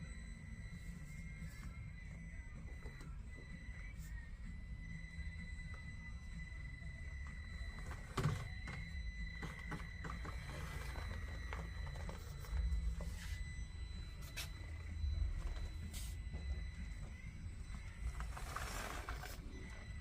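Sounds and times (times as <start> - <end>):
high-pitched electronic squeal: 0.0 - 20.0.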